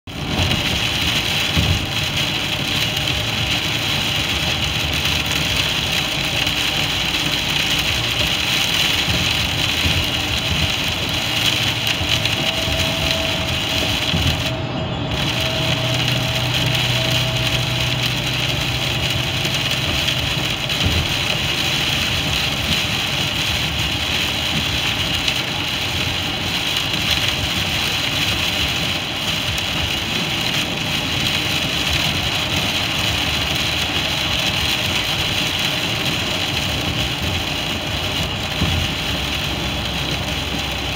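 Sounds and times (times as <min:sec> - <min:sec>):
low engine rumble: 0:00.1 - 0:40.9
rain beating on windshield: 0:00.1 - 0:40.9.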